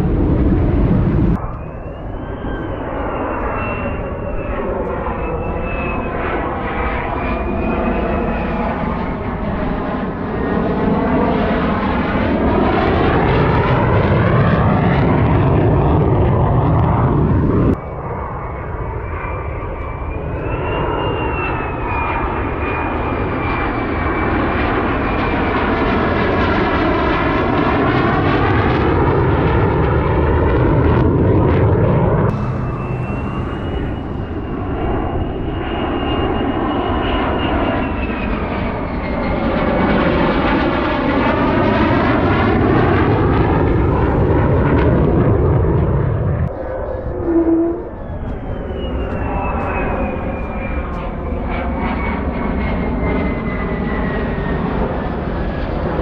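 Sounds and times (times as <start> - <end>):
fighter jet engine roar with whine: 0.0 - 56.0.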